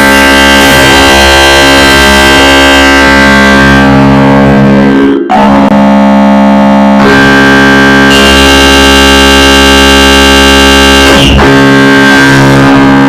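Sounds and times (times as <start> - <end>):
synthesized ringtone chords: 0.0 - 11.6.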